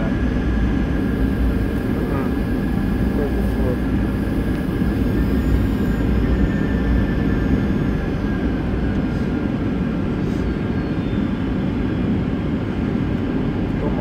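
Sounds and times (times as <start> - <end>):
faint descending whine: 0.0 - 11.5
low rumble of engines and runway: 0.0 - 14.0.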